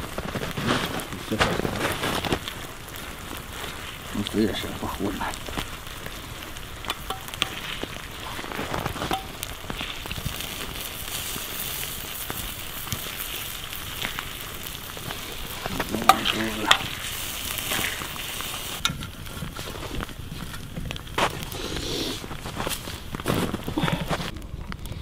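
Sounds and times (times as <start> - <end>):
campfire crackling: 0.0 - 25.0
sharp snaps of fire: 0.0 - 25.0.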